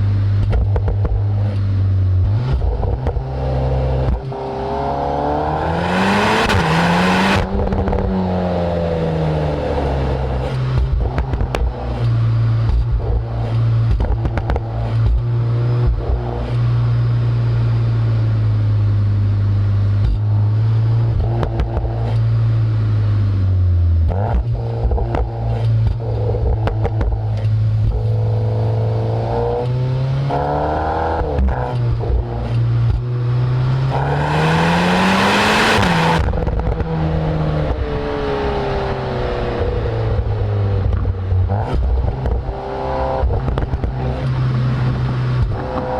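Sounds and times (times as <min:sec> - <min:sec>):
car exhaust revving: 0:00.0 - 0:45.9
exhaust crackles: 0:08.9 - 0:45.9.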